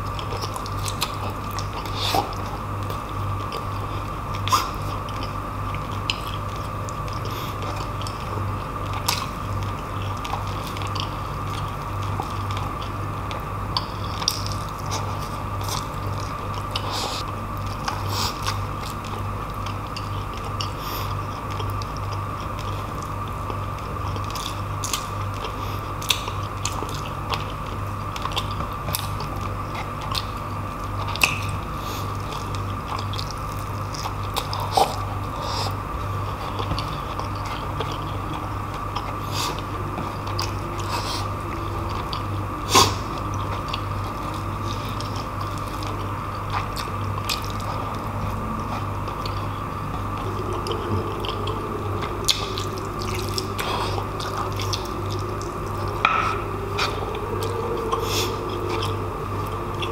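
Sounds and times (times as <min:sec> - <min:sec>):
low background hum: 0:00.0 - 0:59.9
person chewing food: 0:00.0 - 0:59.9.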